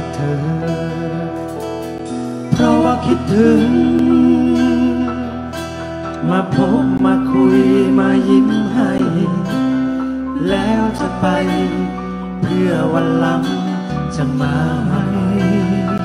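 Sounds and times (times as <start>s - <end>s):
acoustic guitar: 0.0s - 16.0s
man singing into microphone: 0.0s - 16.0s.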